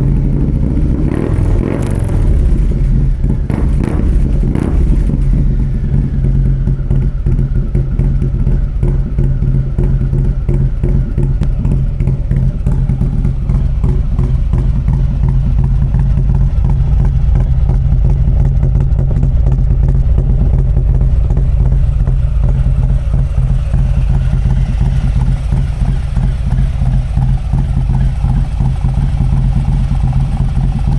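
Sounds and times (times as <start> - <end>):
motorcycle exhaust note: 0.0 - 30.9.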